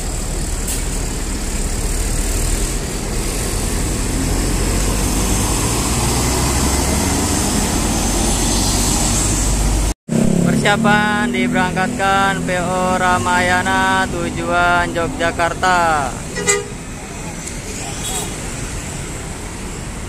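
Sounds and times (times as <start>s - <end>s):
diesel engine driving past: 0.0s - 17.3s
road noise: 0.0s - 20.0s.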